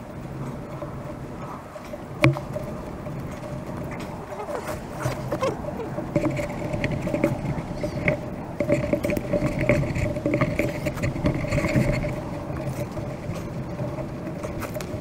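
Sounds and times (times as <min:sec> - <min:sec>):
engine-like hum: 0:00.0 - 0:15.0
cord rustling and clicking: 0:00.4 - 0:15.0.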